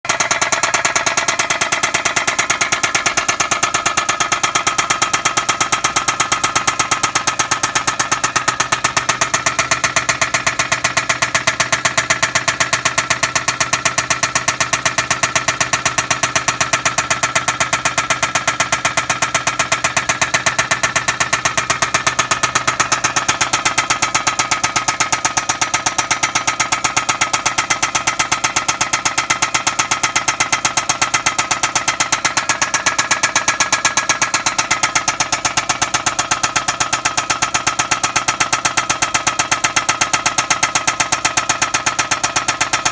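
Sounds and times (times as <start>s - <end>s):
engine idling with knock: 0.0s - 42.9s.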